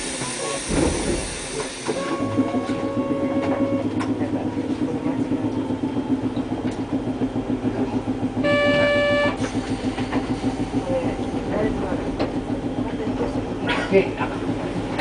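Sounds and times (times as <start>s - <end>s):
streetcar machinery humming: 0.0s - 15.0s.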